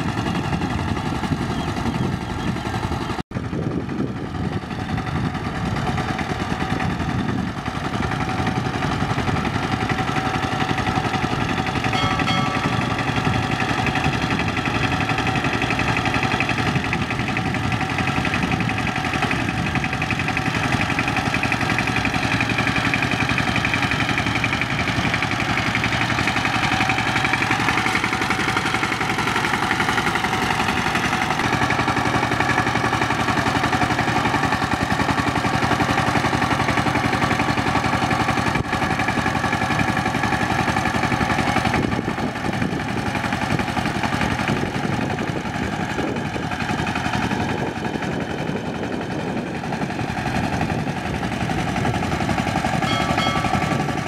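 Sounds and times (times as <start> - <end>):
diesel tiller engine running: 0.0 - 54.0.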